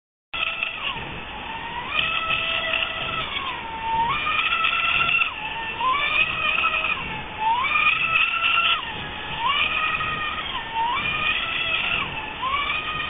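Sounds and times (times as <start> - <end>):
model boat motor whining: 0.3 - 13.0.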